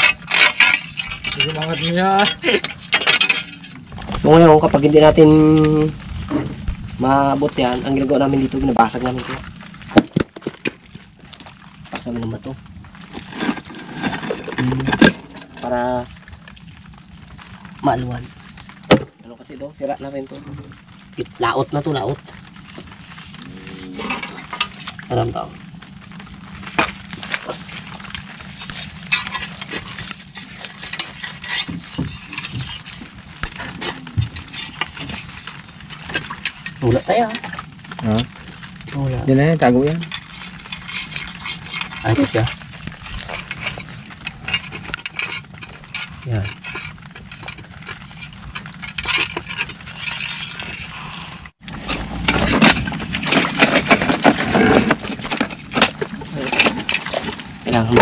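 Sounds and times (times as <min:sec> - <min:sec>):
rocks and concrete knocking: 0:00.0 - 0:58.0
steady low hum: 0:00.0 - 0:58.0.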